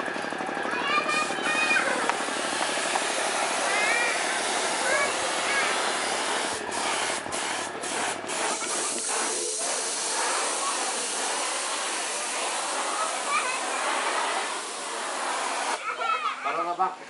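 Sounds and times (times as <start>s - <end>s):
spraying hiss: 2.0s - 15.8s.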